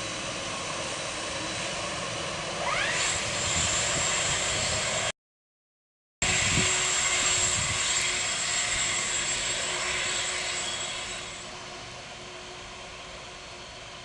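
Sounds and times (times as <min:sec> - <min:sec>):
jet engines with high whine: 0:00.0 - 0:05.2, 0:06.2 - 0:14.0.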